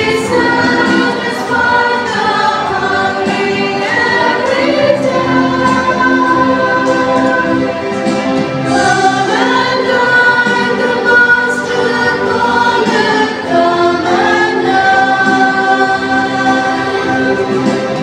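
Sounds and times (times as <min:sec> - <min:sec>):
crowd singing a hymn: 0:00.0 - 0:18.0.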